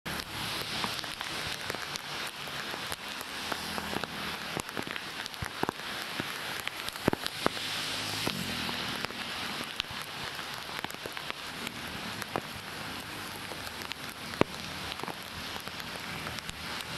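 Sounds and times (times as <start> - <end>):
rain on wet pavement: 0.1 - 16.9.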